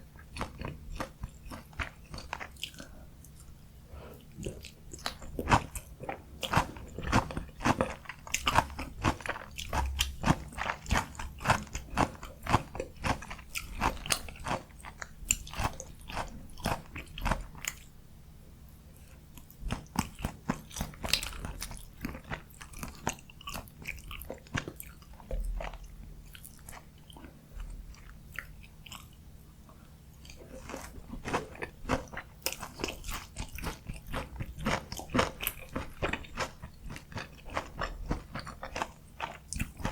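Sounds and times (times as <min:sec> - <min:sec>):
crunching bites and chewing: 0:00.2 - 0:03.4, 0:04.4 - 0:17.9, 0:19.1 - 0:29.2, 0:30.2 - 0:39.9.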